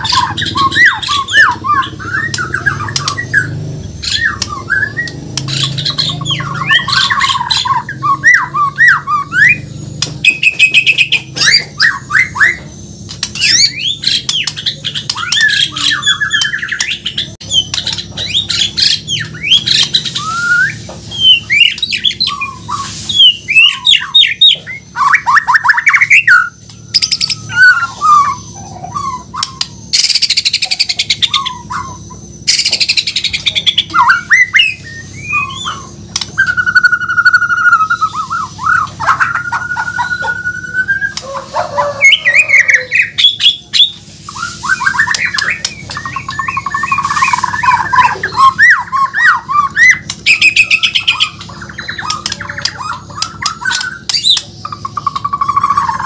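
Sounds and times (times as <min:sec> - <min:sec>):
bird harsh rasping calls: 0:00.0 - 0:56.0
songbird singing whistled phrases: 0:00.0 - 0:56.0.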